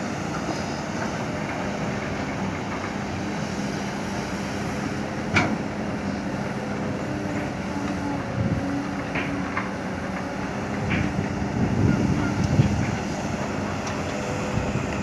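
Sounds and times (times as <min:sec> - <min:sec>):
diesel construction machinery running: 0:00.0 - 0:15.0.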